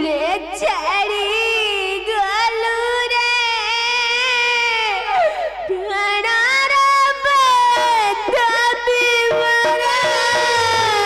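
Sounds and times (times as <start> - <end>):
woman singing with vibrato: 0.0 - 11.0.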